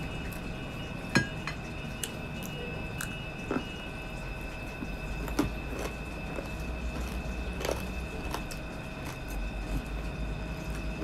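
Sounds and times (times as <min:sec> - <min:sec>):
steady low hum: 0:00.0 - 0:11.0
thin steady high tone: 0:00.0 - 0:11.0
person chewing crispy food: 0:01.9 - 0:11.0.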